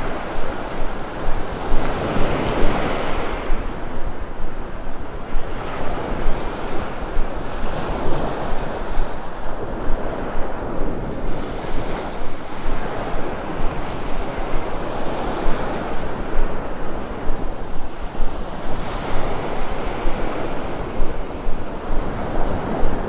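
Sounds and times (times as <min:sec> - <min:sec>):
small waves breaking on sand: 0:00.0 - 0:23.0
wind rumbling on microphone: 0:00.0 - 0:23.0.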